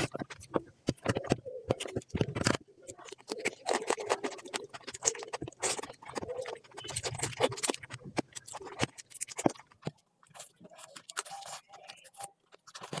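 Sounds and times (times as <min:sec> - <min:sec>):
chewing and crunching: 0:00.0 - 0:13.0.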